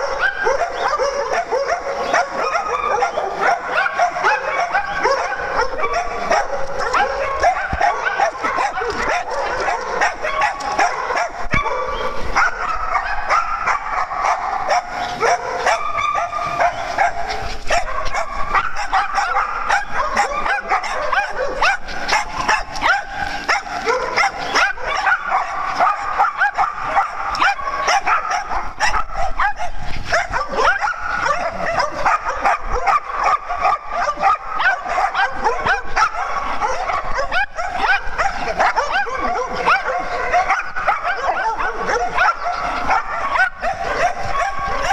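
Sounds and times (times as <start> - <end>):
small dogs barking and yipping: 0.0 - 44.9.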